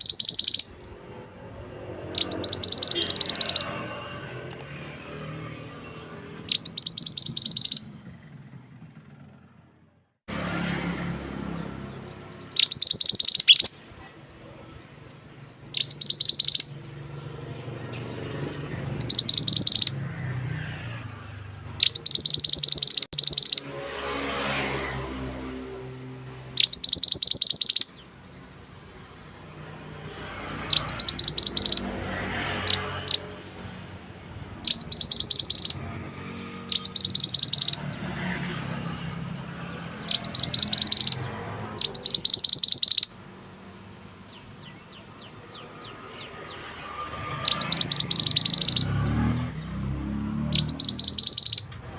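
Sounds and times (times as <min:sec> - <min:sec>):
songbird high rapid trills: 0:00.0 - 0:04.2, 0:06.0 - 0:08.0, 0:11.2 - 0:14.7, 0:15.3 - 0:49.6, 0:50.2 - 0:51.8.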